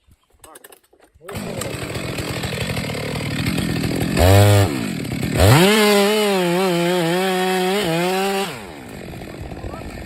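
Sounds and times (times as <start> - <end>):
chainsaw revving: 1.2 - 10.0.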